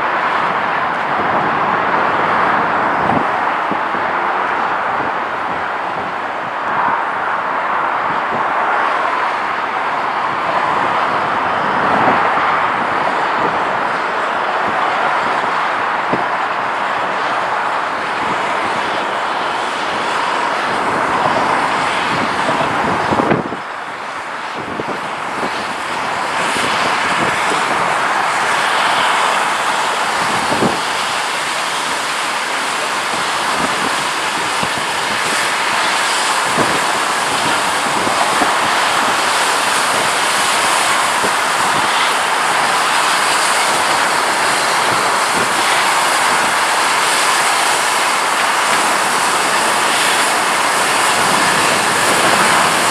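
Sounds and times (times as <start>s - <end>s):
train rushing past: 0.0s - 52.9s.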